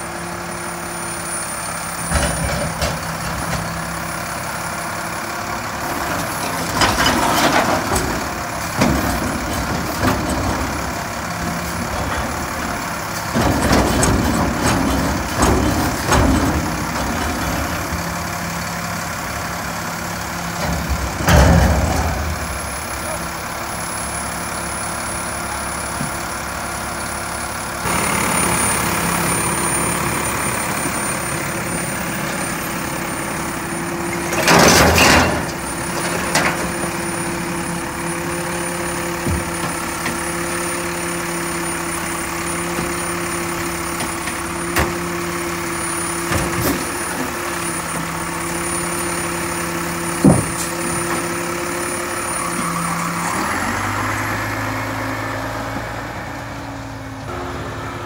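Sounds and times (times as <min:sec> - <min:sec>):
diesel truck engine idling: 0:00.0 - 0:06.8, 0:07.6 - 0:34.4, 0:35.4 - 0:58.0.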